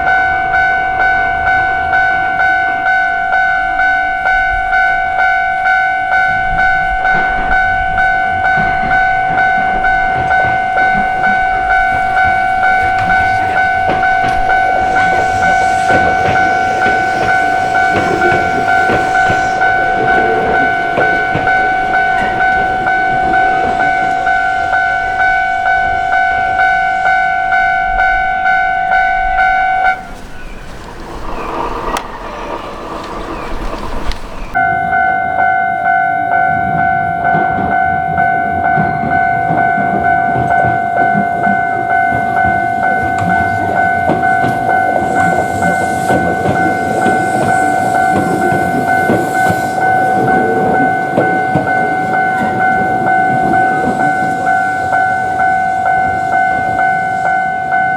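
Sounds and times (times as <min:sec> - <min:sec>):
level crossing bell ringing: 0:00.0 - 0:30.2, 0:34.5 - 0:57.9
train wheels rushing: 0:00.0 - 0:57.9.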